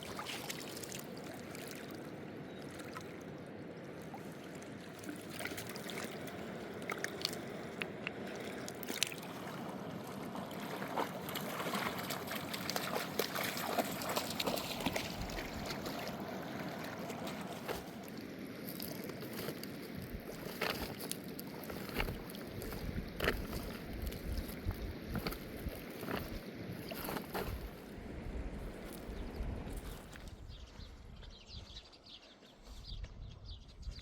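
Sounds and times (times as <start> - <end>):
river water trickling: 0.0 - 30.3.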